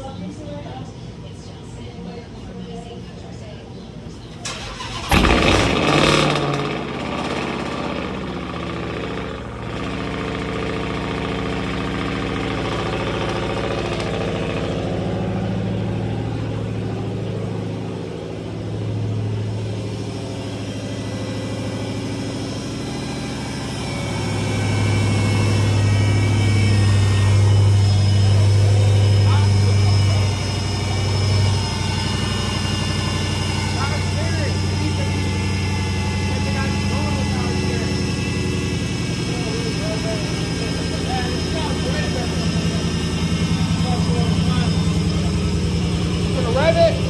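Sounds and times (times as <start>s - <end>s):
car engine starting and idling: 4.0s - 47.0s.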